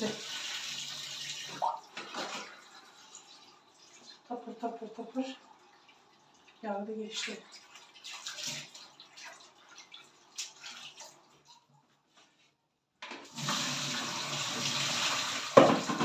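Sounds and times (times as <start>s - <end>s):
water pouring through colander: 0.0s - 11.6s, 13.3s - 16.0s.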